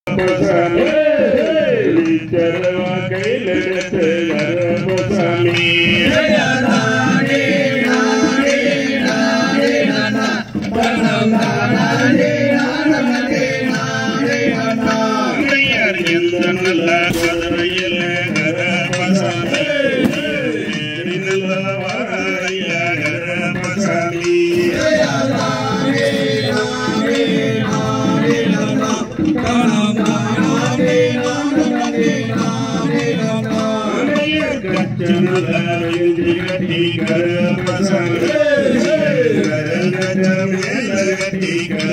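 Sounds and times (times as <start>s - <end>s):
folk song singing: 0.1s - 41.9s
instrumental accompaniment: 0.1s - 41.9s.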